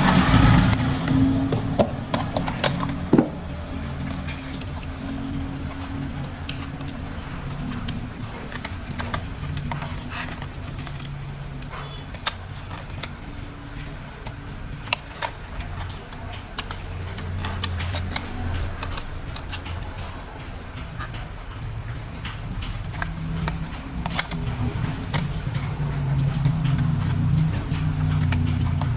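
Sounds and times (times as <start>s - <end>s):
plastic toy parts clicking: 5.6s - 28.9s.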